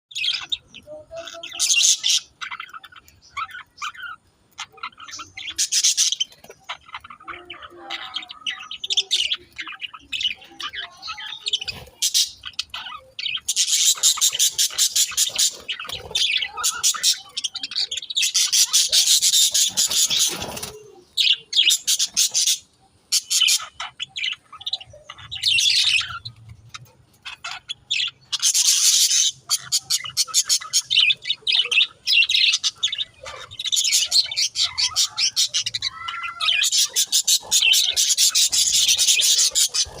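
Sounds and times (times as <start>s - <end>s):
budgerigars chattering: 0.1s - 40.0s.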